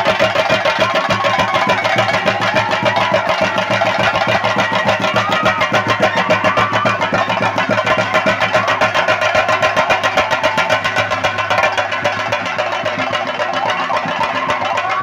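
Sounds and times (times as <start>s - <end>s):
drums played fast with sticks: 0.0s - 15.0s.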